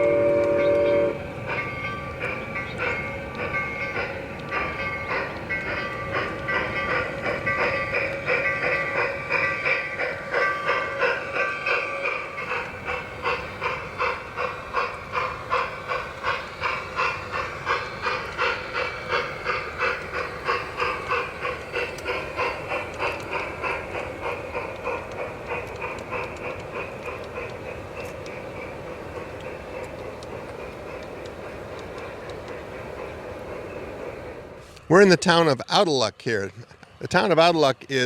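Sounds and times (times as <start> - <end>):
model steam locomotive chuffing: 0.0 - 38.0.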